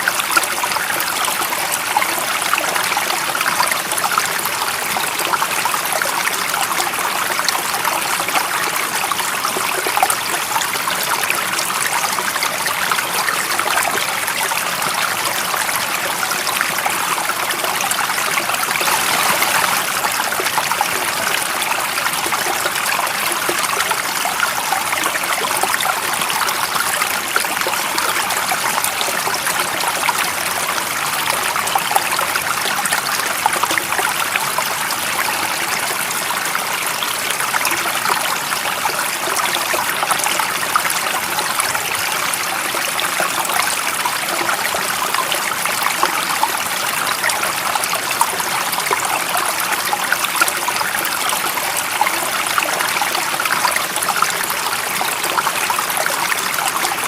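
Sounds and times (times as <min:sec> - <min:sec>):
stream of water running: 0:00.0 - 0:57.0.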